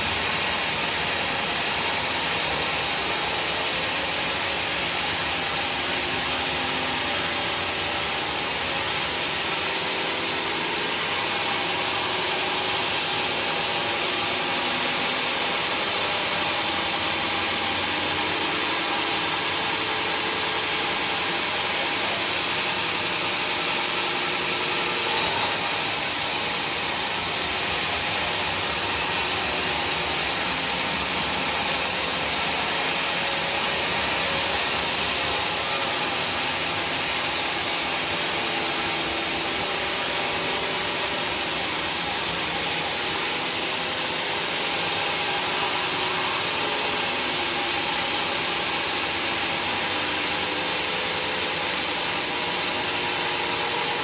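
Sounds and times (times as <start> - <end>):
woodworking machine hissing: 0.0 - 54.0.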